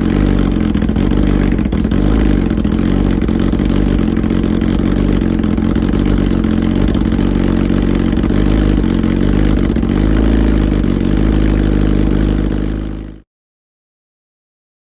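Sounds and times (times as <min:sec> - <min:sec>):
motorcycle engine idling: 0:00.0 - 0:13.2.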